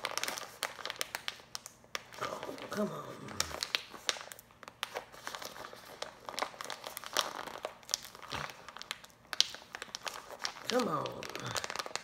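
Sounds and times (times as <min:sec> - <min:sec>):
snack bag crinkling: 0:00.0 - 0:12.0.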